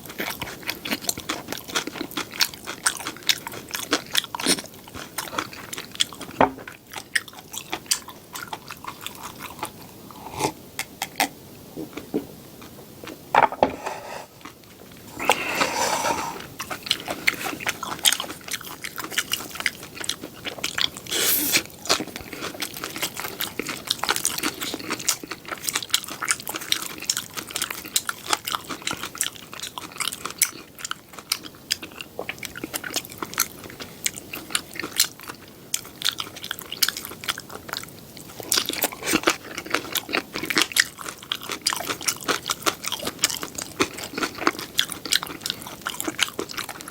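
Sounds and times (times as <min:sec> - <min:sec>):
wet chewing clicks: 0:00.0 - 0:11.3, 0:16.4 - 0:46.9.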